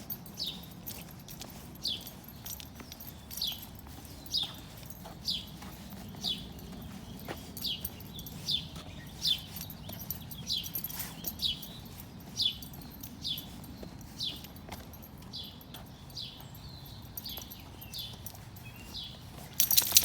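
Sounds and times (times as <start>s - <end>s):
bird chirping: 0.2s - 20.0s.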